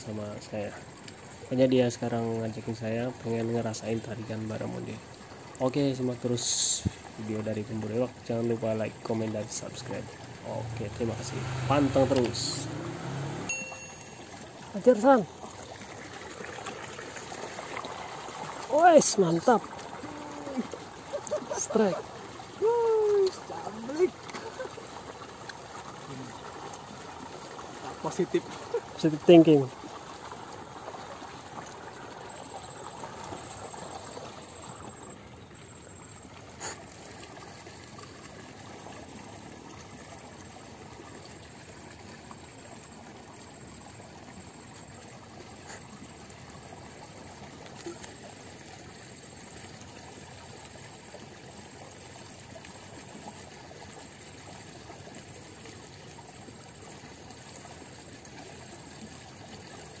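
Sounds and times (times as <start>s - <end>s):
water trickling: 0.0s - 60.0s.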